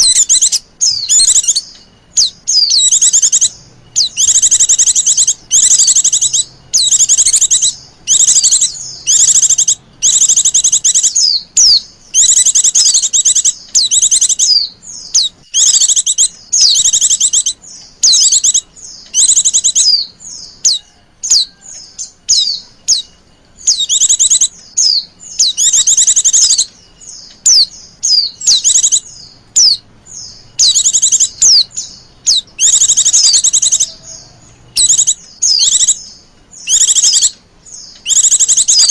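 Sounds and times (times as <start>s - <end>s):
bird chattering chirps: 0.0s - 38.9s.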